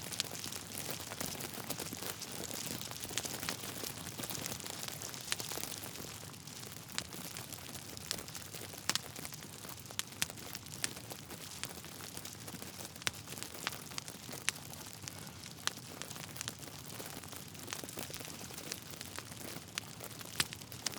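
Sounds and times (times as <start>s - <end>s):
log fire crackling and popping: 0.0s - 20.9s.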